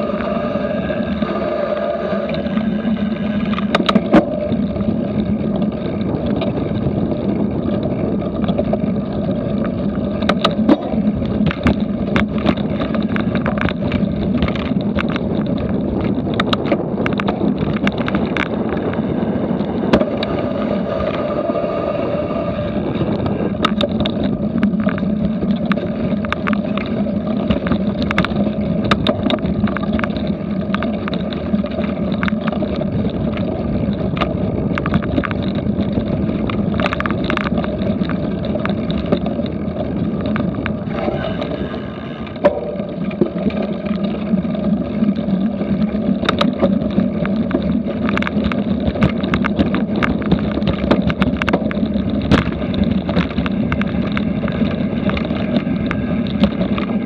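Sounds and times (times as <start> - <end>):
bike rattling over grass: 0.0 - 57.0
wind rushing on microphone: 0.0 - 57.0
small knocks and clicks: 3.4 - 6.9, 7.6 - 21.2, 23.1 - 57.0.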